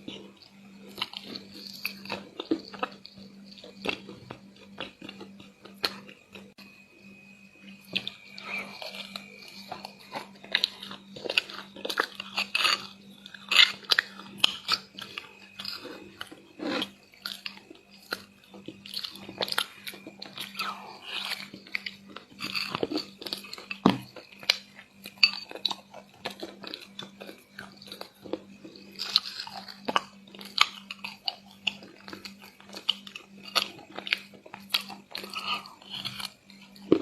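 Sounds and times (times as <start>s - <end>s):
crunching and chewing chocolate: 0.0s - 37.0s
faint steady hum: 0.0s - 37.0s.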